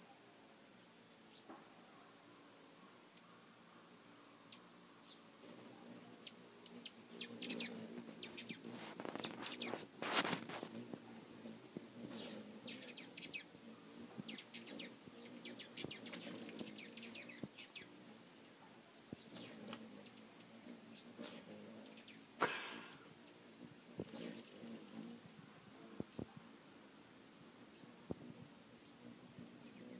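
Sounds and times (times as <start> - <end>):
hummingbirds chattering: 0.6 - 29.9.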